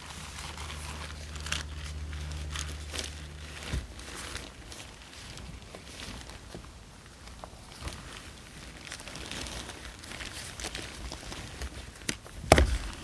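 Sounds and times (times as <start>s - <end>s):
nylon fabric rustling: 0.0s - 13.0s.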